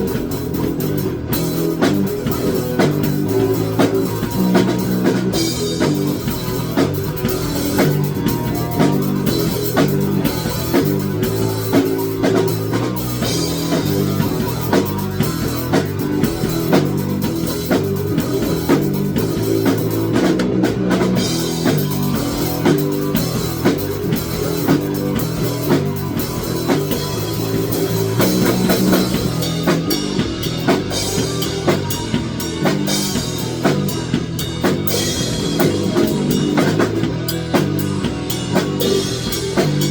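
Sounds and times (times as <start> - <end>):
drums keeping a steady beat: 0.0 - 39.9
rock music: 0.0 - 39.9.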